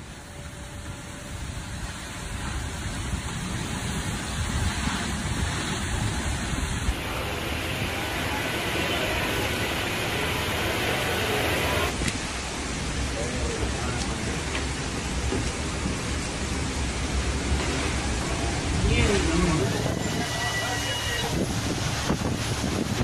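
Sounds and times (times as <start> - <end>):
fast-flowing floodwater: 0.0 - 23.0
gusting wind: 0.0 - 23.0
heavy rain: 0.0 - 23.0.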